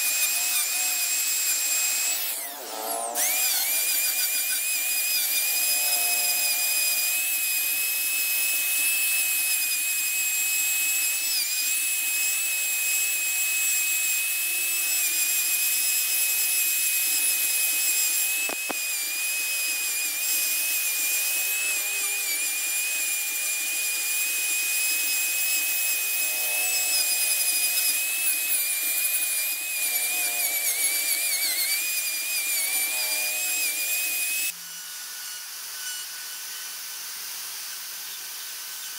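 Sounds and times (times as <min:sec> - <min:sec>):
rotary tool grinding wood: 0:00.0 - 0:38.9.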